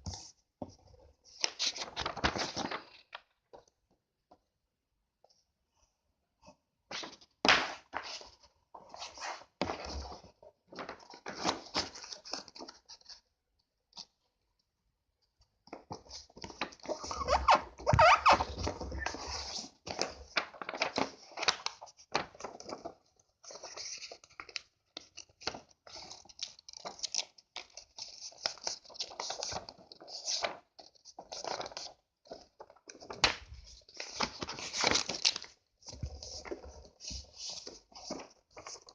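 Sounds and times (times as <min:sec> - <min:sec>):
paper rustling and crinkling: 0:01.3 - 0:03.4, 0:06.9 - 0:13.2, 0:15.7 - 0:38.9.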